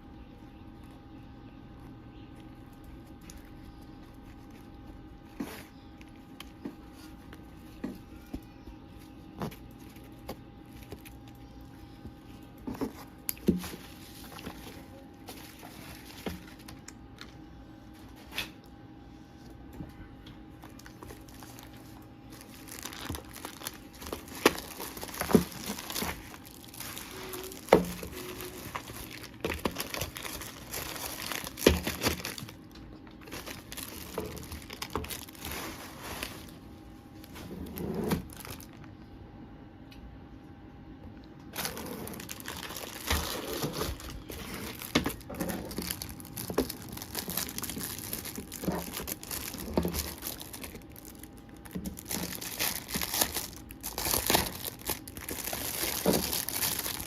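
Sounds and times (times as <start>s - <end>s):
plastic packaging crinkling: 2.3s - 8.4s, 9.0s - 18.6s, 20.6s - 38.9s, 41.5s - 57.0s.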